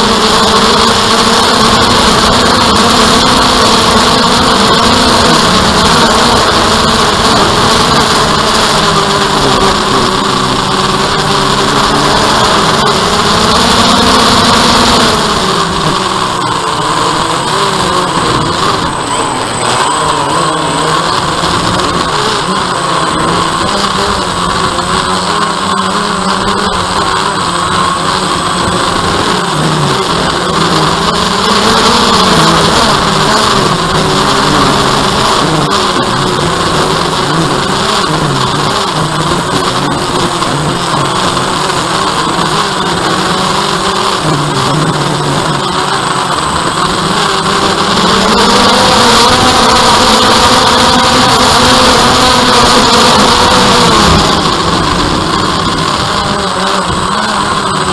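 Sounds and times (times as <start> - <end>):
drone propellers humming: 0.0 - 57.9.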